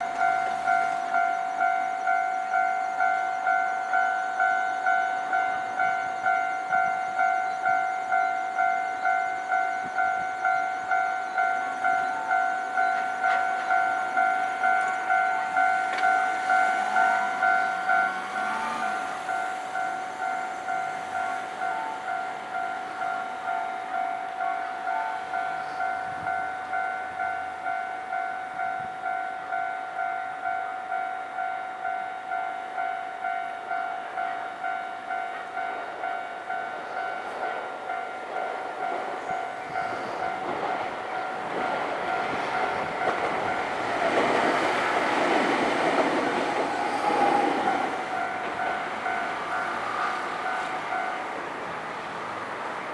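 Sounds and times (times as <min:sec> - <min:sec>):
level crossing alarm bell dings: 0:00.0 - 0:51.2
train running over crossing: 0:00.0 - 0:52.9.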